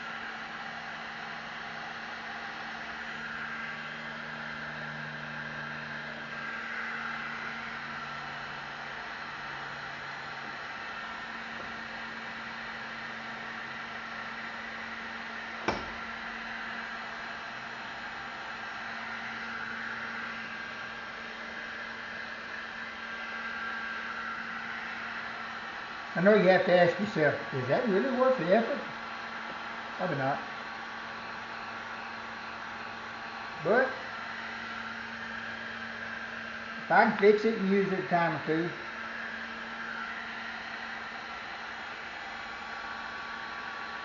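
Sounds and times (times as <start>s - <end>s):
heat gun blowing with motor hum: 0.0s - 44.0s.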